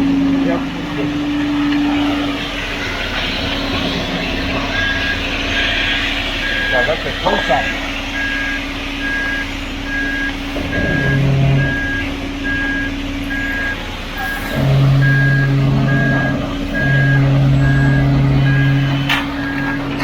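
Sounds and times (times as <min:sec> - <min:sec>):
diesel engine running: 0:00.0 - 0:20.0
low drone: 0:00.0 - 0:20.0
vehicle reversing alarm beeping: 0:00.0 - 0:20.0.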